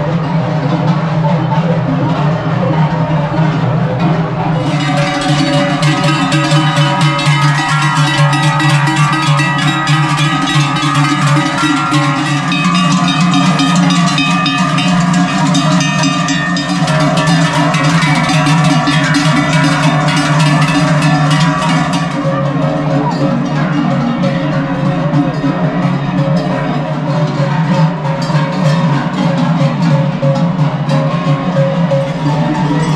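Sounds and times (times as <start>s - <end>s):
cowbells clanging: 4.4s - 32.9s.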